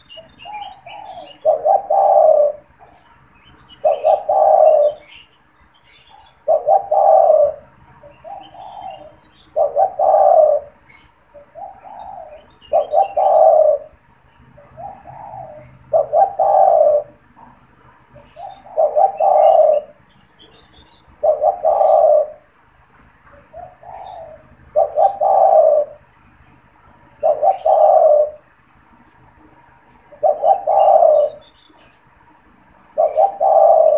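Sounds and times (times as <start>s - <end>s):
dove cooing: 0.0s - 3.1s, 3.7s - 22.5s, 23.3s - 26.1s, 26.9s - 28.5s, 29.5s - 32.0s, 32.8s - 33.9s
small birds chirping: 0.0s - 33.9s.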